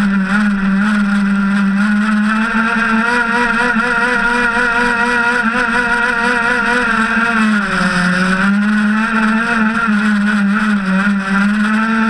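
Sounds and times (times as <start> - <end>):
two-stroke boat engine revving: 0.0 - 12.0.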